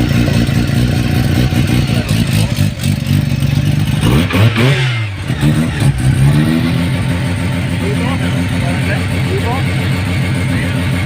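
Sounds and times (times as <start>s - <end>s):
car engine running and revving: 0.0s - 11.0s.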